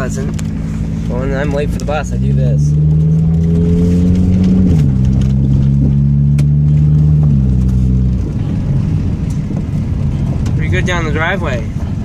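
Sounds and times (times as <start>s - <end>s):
car engine accelerating loudly: 0.0s - 12.0s.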